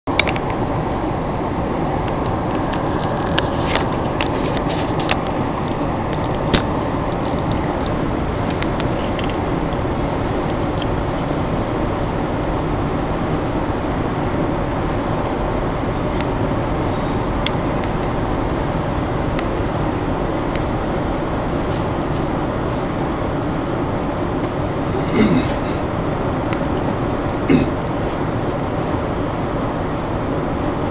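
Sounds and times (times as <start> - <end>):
train rumbling: 0.2 - 30.9.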